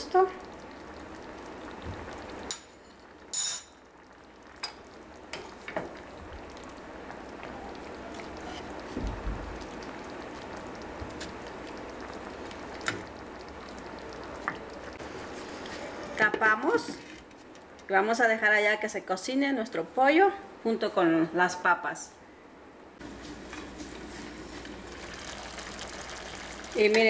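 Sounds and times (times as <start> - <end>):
broth simmering and bubbling: 0.0 - 19.8, 22.4 - 27.0.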